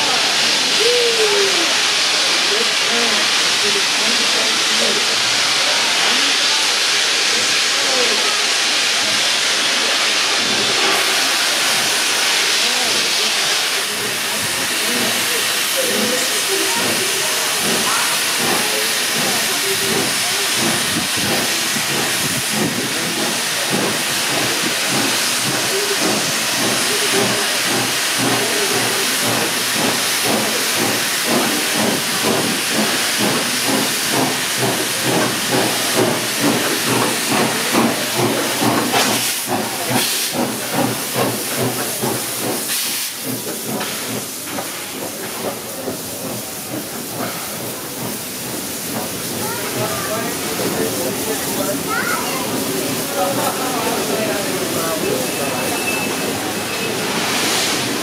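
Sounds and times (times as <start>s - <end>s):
steam hissing: 0.0s - 58.0s
steam locomotive exhaust chuffs: 0.0s - 58.0s.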